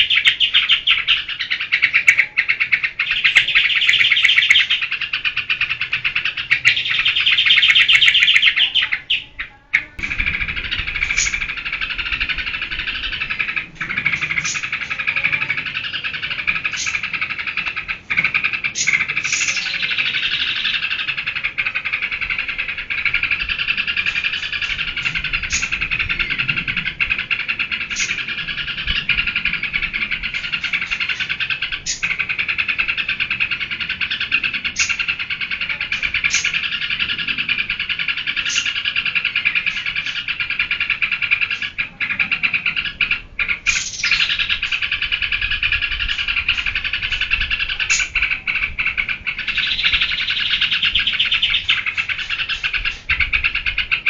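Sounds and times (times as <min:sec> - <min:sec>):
bird chirping song: 0:00.0 - 0:54.0.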